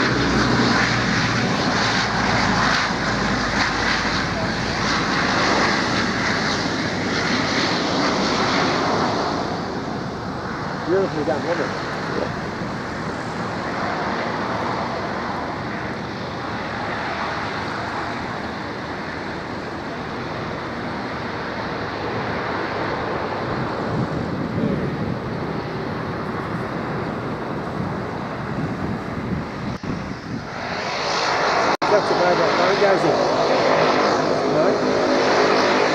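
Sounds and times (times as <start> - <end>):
distant turboprop engines: 0.0 - 35.9.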